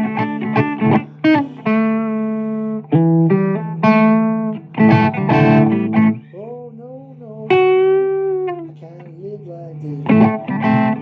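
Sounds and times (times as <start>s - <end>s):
blues guitar playing: 0.0s - 11.0s.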